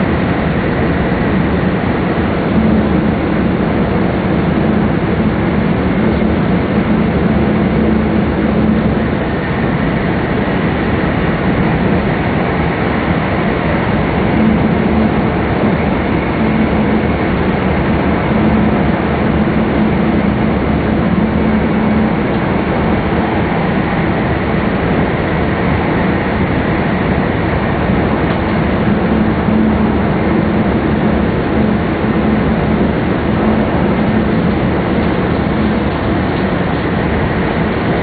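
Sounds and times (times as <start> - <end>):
low hum: 0.0 - 38.0
train cabin rushing rumble: 0.0 - 38.0.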